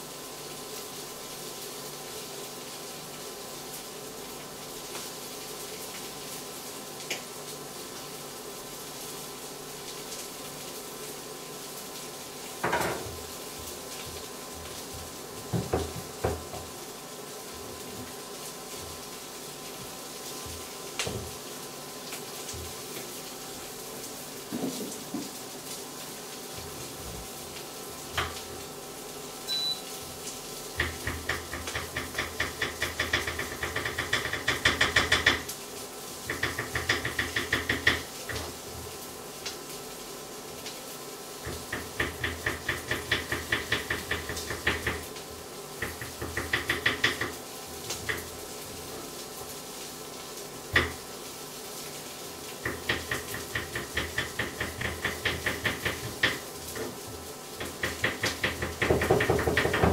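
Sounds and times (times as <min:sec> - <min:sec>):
sausages frying and spattering: 0:00.0 - 0:59.9.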